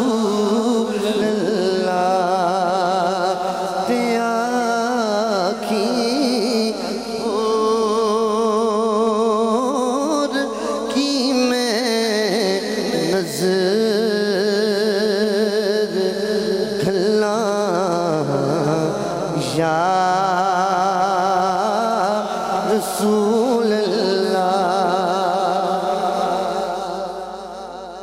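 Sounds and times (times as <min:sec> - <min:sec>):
man singing long held notes: 0:00.0 - 0:28.0.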